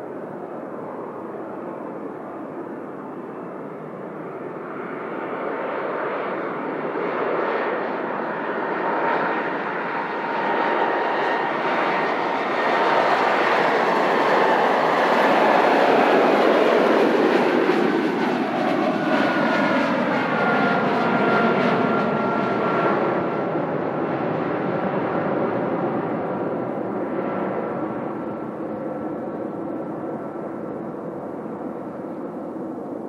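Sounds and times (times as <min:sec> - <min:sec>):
airliner passing: 0:00.0 - 0:33.0
jet engine whine: 0:00.0 - 0:33.0.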